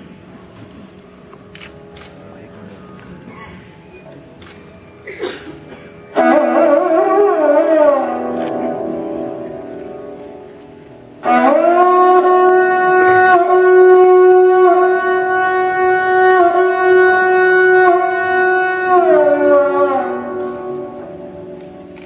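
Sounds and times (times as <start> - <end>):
sarangi bowed note: 0.3 - 22.0.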